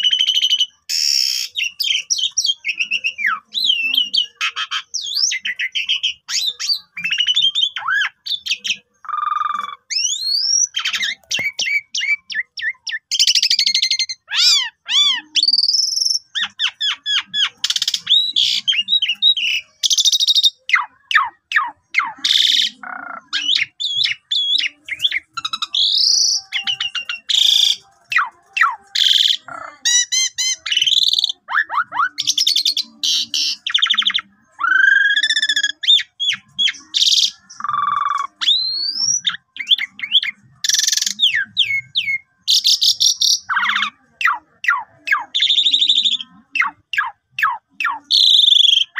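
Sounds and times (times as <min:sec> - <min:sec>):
starling singing: 0:00.0 - 0:48.9.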